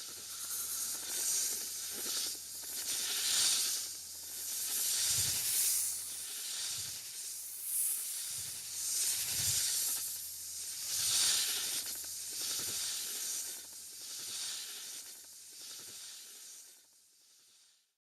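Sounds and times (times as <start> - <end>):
long snake hisses: 0.0 - 17.8.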